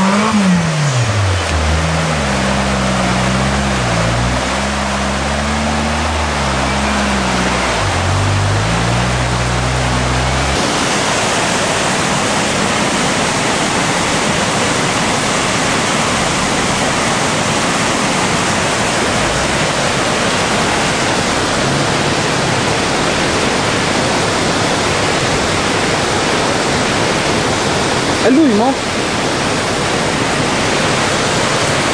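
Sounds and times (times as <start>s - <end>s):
vehicle engine revving: 0.0s - 14.1s, 14.8s - 27.6s
river water rushing: 0.0s - 31.9s.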